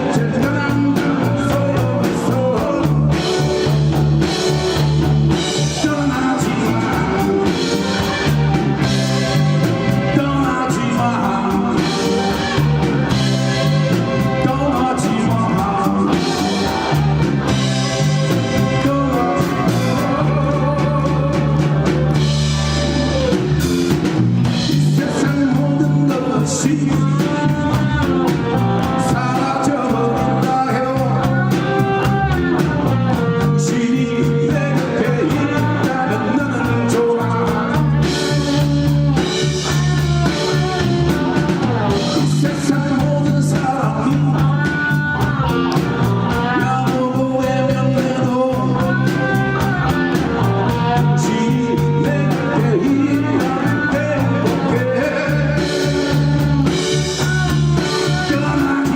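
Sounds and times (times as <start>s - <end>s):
bass line: 0.0s - 58.9s
drum kit: 0.0s - 58.9s
guitar: 0.0s - 58.9s
person singing: 0.0s - 58.9s.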